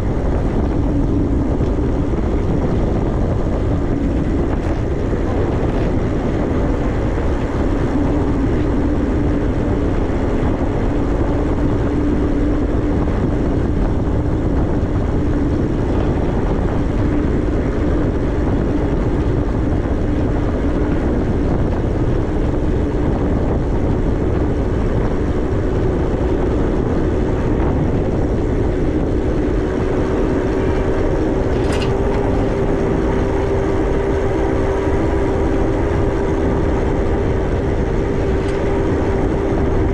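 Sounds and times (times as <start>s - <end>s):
electric motor whine: 0.0s - 39.9s
wind rumbling on microphone: 0.0s - 39.9s.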